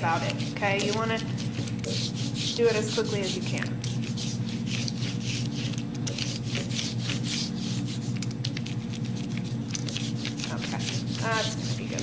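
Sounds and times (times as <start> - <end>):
rubber roller rasping through ink: 0.0 - 12.0.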